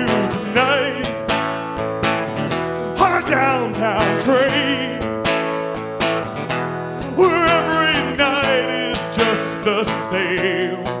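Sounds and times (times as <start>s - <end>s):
man singing: 0.0s - 5.8s, 6.9s - 11.0s
strummed acoustic guitar: 0.0s - 11.0s.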